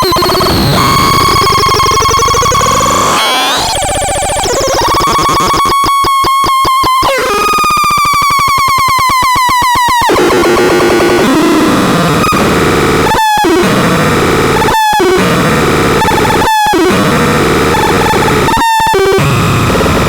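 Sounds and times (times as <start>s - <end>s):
harsh synthesizer tones: 0.0s - 20.0s.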